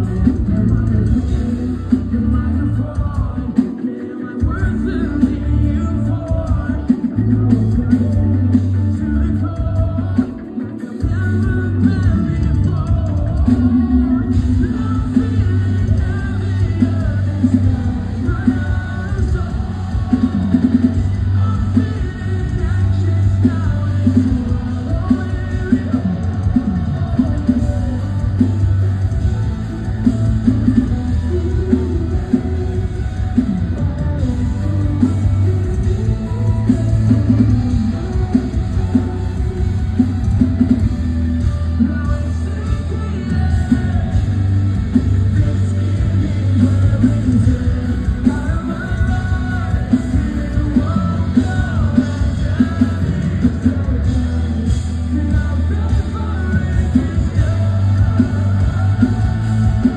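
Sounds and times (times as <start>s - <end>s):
live rock band: 0.0s - 59.9s
person singing: 0.0s - 59.9s.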